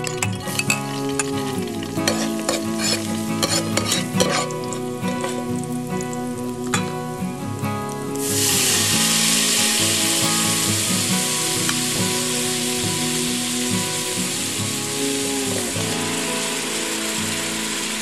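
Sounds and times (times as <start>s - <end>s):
garlic sizzling in oil: 0.0s - 18.0s.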